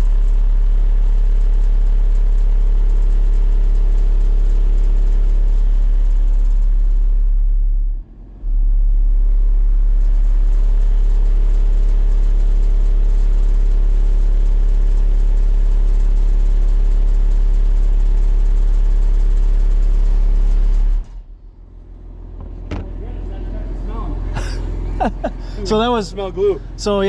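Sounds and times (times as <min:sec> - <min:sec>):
distorted deep bass test tone: 0:00.0 - 0:27.0.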